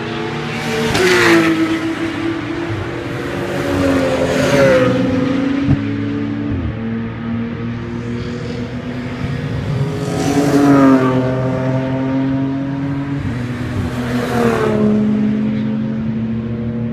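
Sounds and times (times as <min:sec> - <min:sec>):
drone of engines: 0:00.0 - 0:16.9
race cars passing by: 0:00.0 - 0:16.9.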